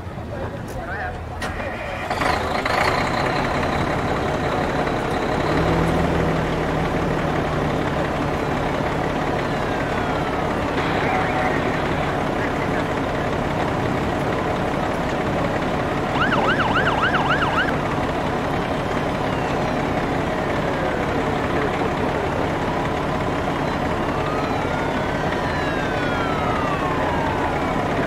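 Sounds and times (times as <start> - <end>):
vehicle noise: 0.0 - 28.0
fire engine siren: 1.8 - 28.0.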